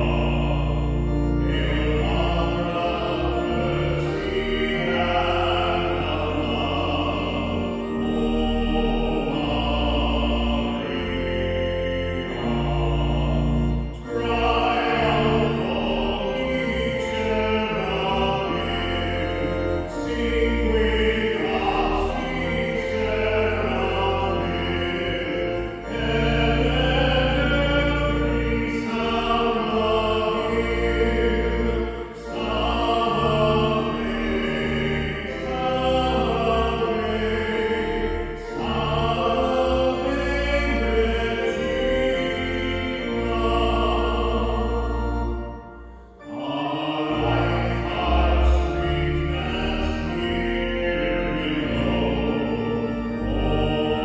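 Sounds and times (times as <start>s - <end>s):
low instrumental accompaniment: 0.0s - 54.0s
man singing a hymn: 0.0s - 54.0s.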